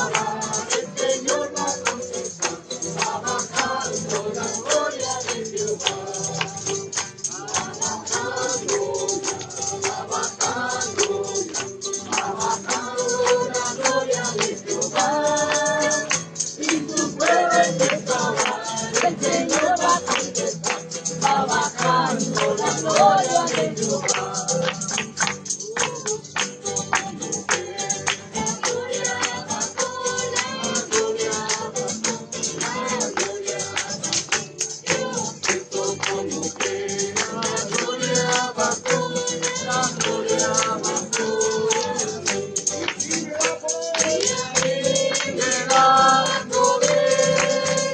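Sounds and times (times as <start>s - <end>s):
group singing worship chorus: 0.0s - 47.9s
shaken tambourine: 0.0s - 47.9s.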